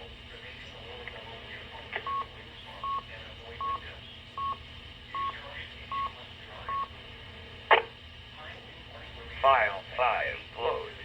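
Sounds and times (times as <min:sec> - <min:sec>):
faint radio speech: 0:00.0 - 0:11.0.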